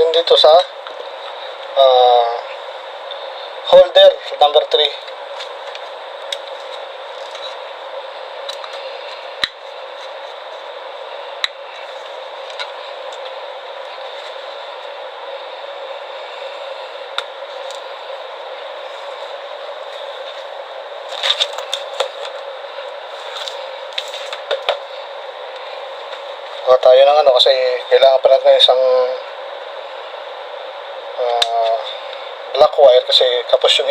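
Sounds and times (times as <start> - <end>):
steady hiss: 0.0 - 33.9.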